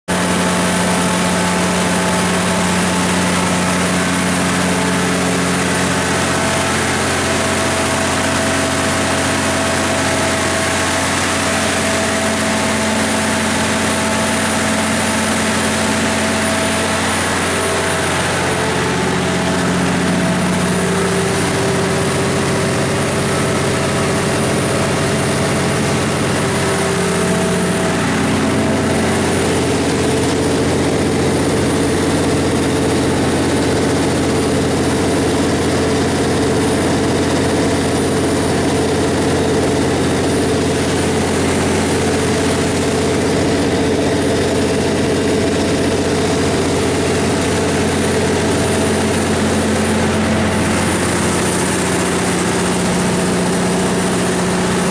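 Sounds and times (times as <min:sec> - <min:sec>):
diesel generator engine running: 0:00.1 - 0:54.9.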